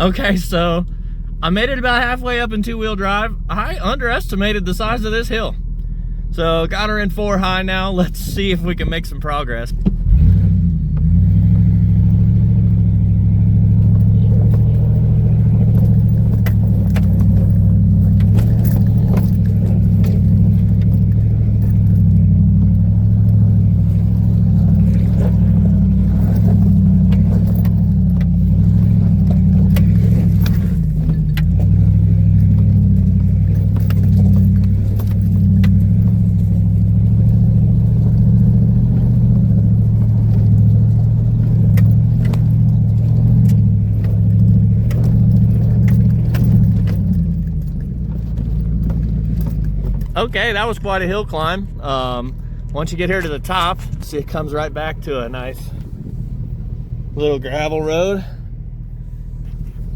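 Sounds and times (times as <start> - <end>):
pickup engine pulling under load: 0.0 - 59.9
truck clicks and rattles: 9.0 - 57.2.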